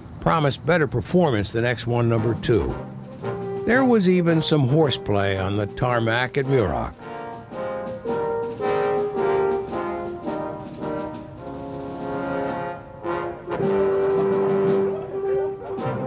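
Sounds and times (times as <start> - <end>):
orchestral music led by brass: 1.6 - 16.0.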